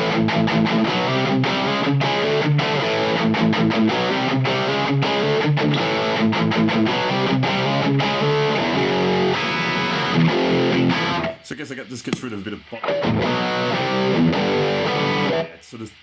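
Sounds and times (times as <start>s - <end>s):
distorted electric guitar chords: 0.0s - 15.6s.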